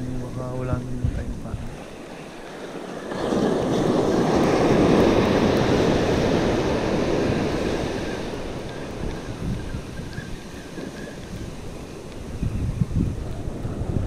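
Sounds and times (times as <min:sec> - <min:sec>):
wave breaking on sand: 0:01.8 - 0:14.0.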